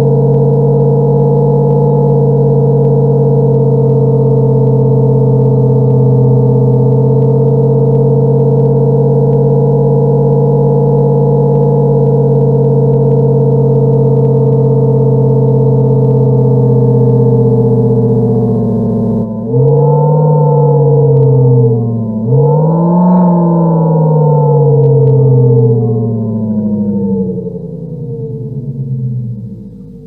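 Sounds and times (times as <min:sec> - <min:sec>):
synthetic engine sound: 0:00.0 - 0:30.0.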